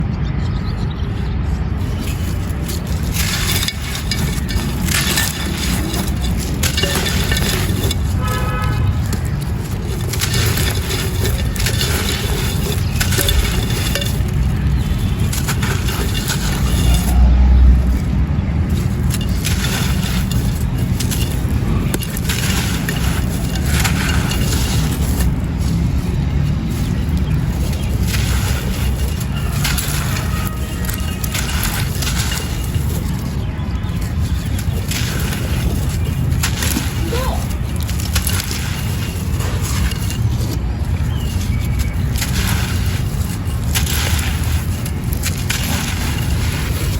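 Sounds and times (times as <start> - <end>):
steady low rumble: 0.0 - 46.9
dry clay crunching and crumbling: 0.7 - 46.9.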